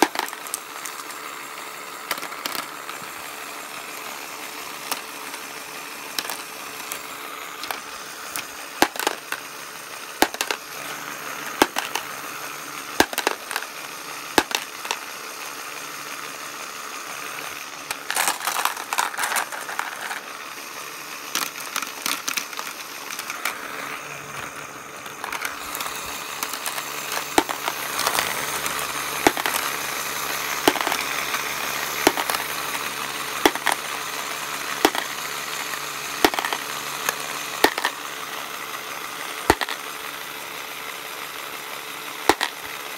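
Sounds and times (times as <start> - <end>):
plastic balls clattering: 0.0 - 40.2, 42.0 - 42.9
small motor whirring: 0.0 - 42.9.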